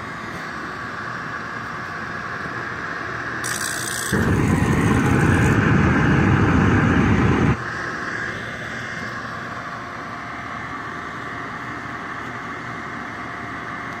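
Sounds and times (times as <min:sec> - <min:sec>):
blower fan whining: 0:00.0 - 0:14.0
gas burner flame roar: 0:00.0 - 0:14.0.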